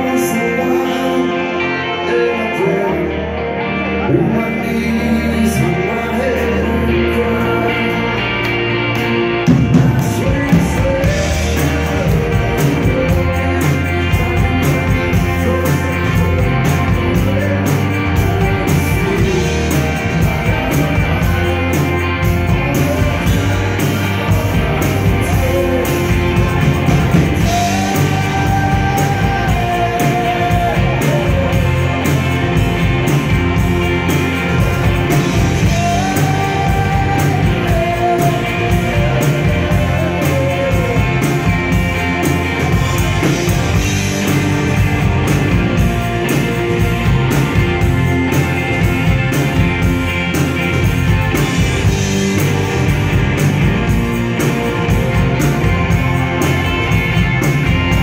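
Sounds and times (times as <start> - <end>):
man singing lead vocal: 0.0 - 47.8
electric guitars: 0.0 - 58.0
drum kit: 7.5 - 58.0.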